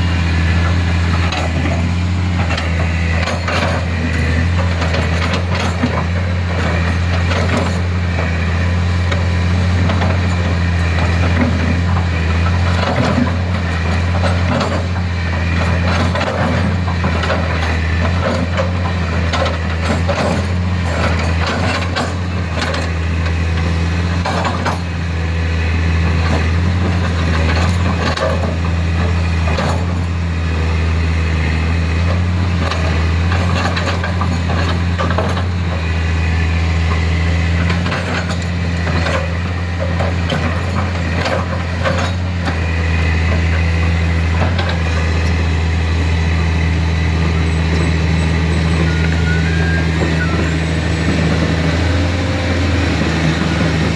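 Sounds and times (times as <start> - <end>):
clanks and rattles of tracks: 0.0 - 53.9
excavator diesel engine running: 0.0 - 53.9.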